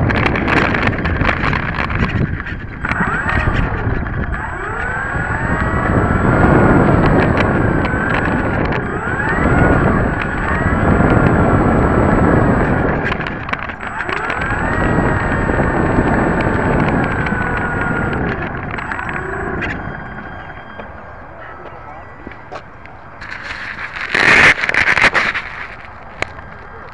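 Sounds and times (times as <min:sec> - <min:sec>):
model plane motor and propeller revving: 0:00.0 - 0:20.9, 0:23.2 - 0:26.9
scattered clicks: 0:00.0 - 0:20.9, 0:22.2 - 0:26.9.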